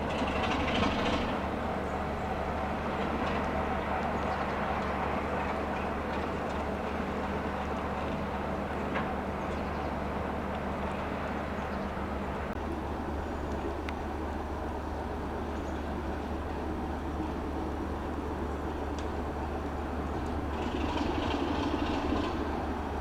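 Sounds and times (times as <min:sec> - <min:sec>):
diesel locomotive engine idling: 0:00.0 - 0:23.0.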